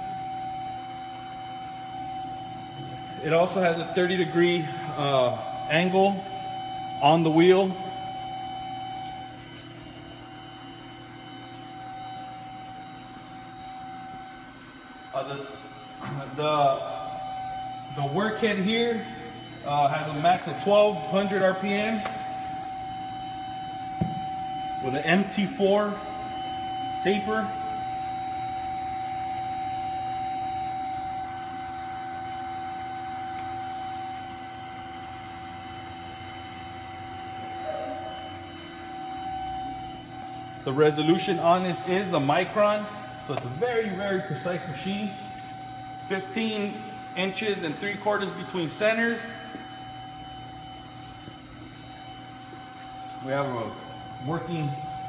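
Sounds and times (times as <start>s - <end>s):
low machine hum: 0.0s - 55.0s
thin high whine: 0.0s - 55.0s.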